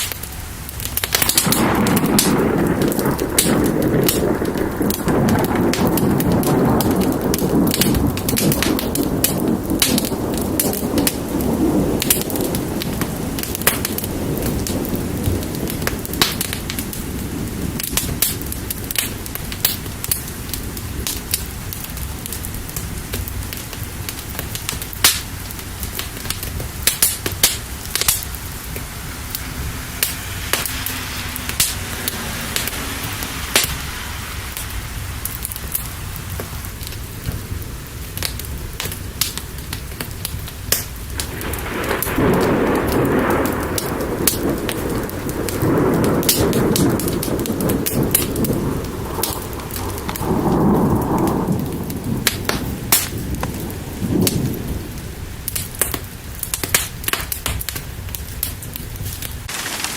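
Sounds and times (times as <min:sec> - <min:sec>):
low thunder rumble: 0:00.0 - 0:59.8
rain hissing: 0:00.0 - 0:59.9
wood fire crackling and popping: 0:00.0 - 0:59.9.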